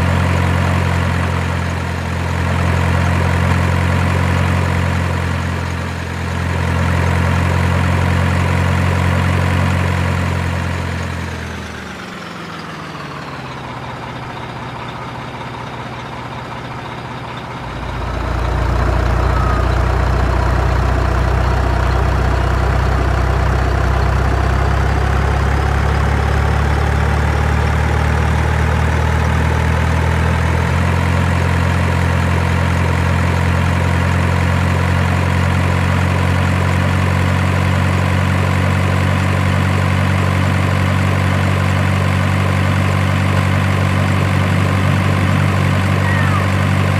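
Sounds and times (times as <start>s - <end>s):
heavy truck engine running: 0.0s - 46.9s.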